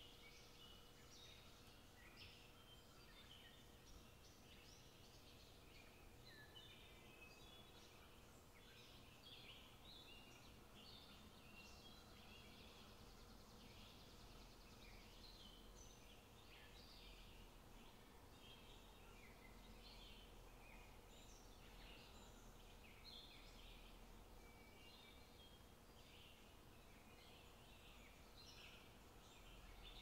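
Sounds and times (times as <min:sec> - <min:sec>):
low steady hiss: 0:00.0 - 0:30.0
small birds chirping: 0:00.0 - 0:30.0.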